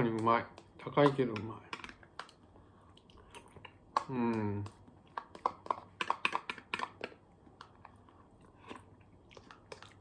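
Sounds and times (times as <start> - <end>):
mouth sounds of eating: 0.0 - 10.0.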